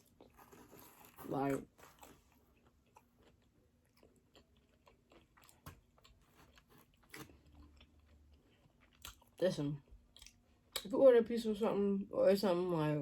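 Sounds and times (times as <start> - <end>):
person chewing: 0.0 - 10.8.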